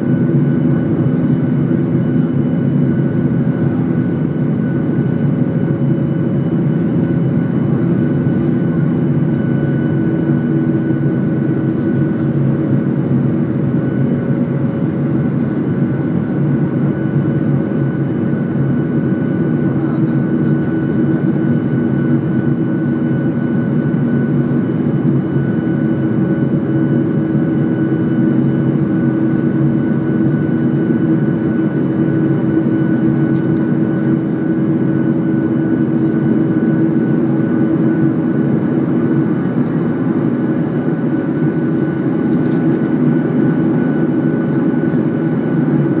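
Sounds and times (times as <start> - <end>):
jet engines droning: 0.0 - 46.0.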